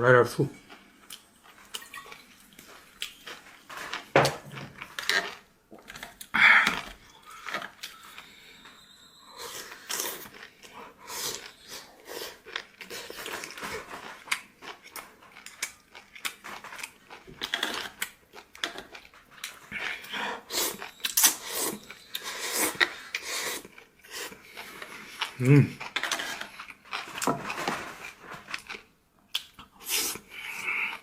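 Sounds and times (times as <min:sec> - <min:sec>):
person chewing food: 0:00.6 - 0:31.0.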